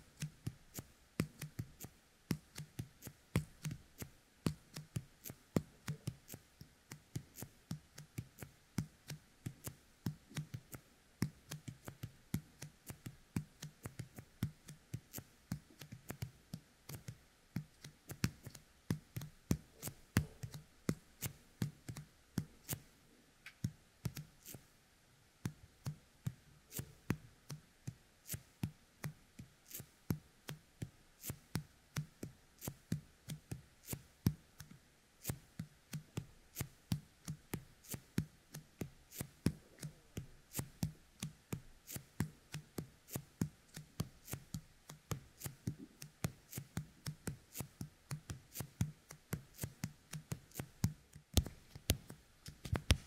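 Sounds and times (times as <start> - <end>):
sticky fingertips clicking: 0.2 - 24.6, 25.5 - 53.0.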